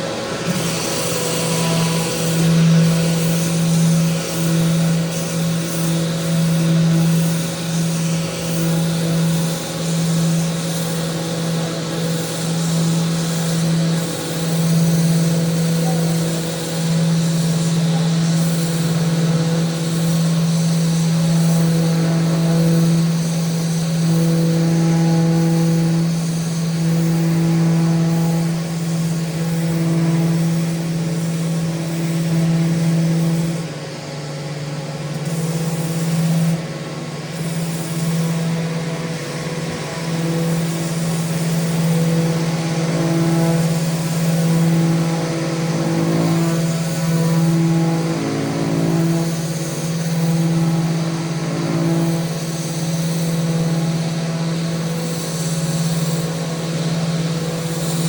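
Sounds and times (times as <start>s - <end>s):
electric sander running: 0.0s - 58.0s.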